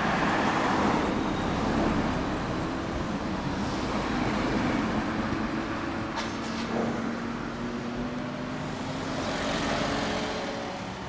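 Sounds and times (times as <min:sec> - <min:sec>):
car and motorcycle engines: 0:00.0 - 0:11.0.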